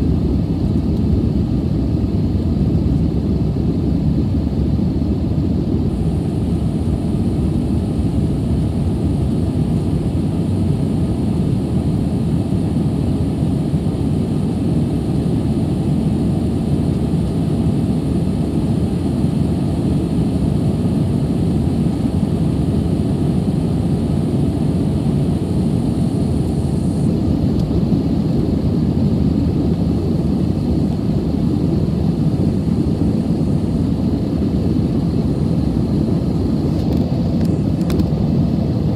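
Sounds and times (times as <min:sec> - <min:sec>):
airplane cabin engine noise: 0:00.0 - 0:38.9
faint high whine: 0:00.0 - 0:38.9.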